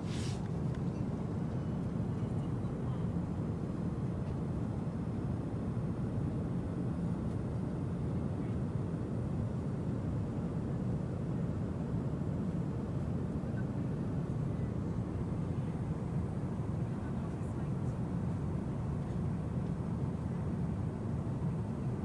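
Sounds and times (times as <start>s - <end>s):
airliner cabin noise: 0.0s - 22.0s.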